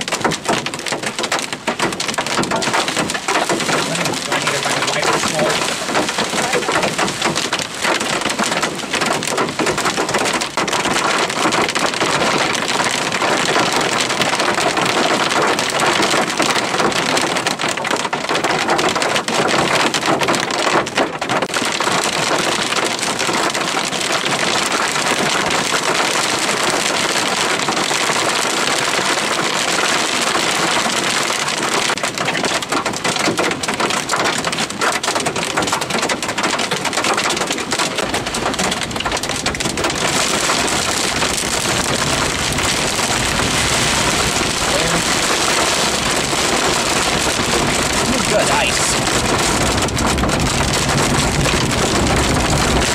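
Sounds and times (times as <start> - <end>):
hail pounding car: 0.0 - 52.9.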